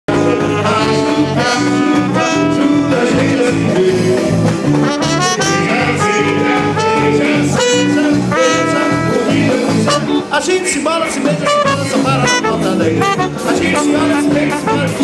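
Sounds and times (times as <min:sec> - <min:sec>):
loud trumpet: 0:00.1 - 0:10.5, 0:11.4 - 0:15.0
brass band playing: 0:00.1 - 0:15.0.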